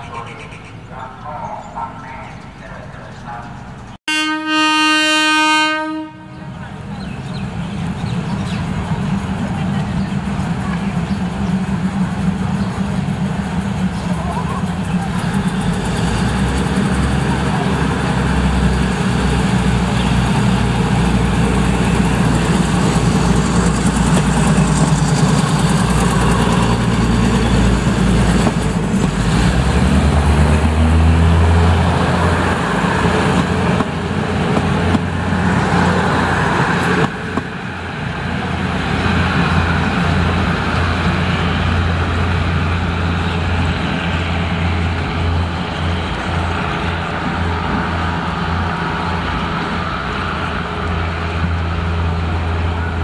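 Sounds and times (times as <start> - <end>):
diesel train passing: 0.0 - 53.0.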